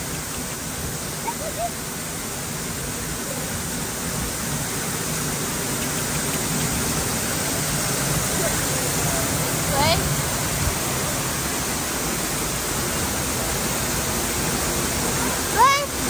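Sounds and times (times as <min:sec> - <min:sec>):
waterfall pouring onto rocks: 0:00.0 - 0:16.0.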